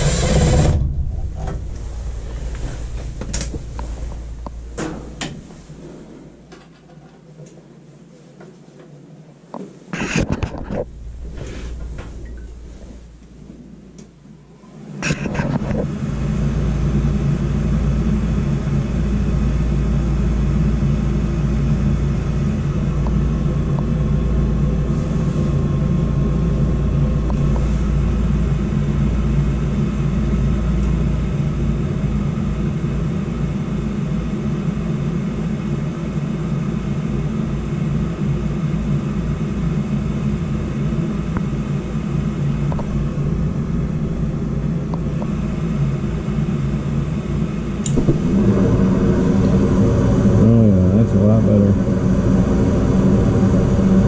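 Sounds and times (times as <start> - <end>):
gas furnace rumbling: 0.0 - 8.1, 9.4 - 54.0.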